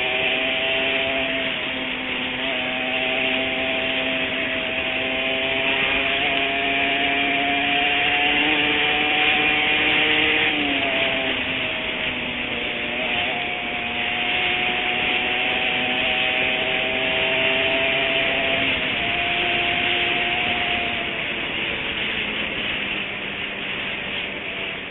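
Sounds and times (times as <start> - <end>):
two-stroke motorcycle engine revving: 0.0 - 24.9.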